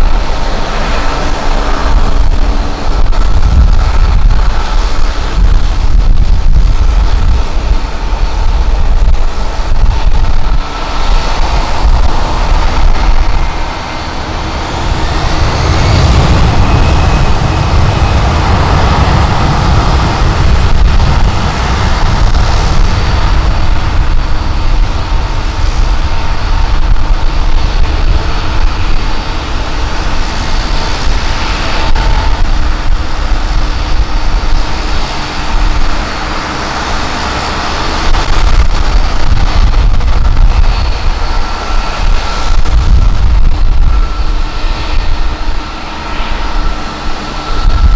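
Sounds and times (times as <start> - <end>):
jet engines running with whine: 0.0 - 47.9
wind buffeting microphone: 0.0 - 47.9.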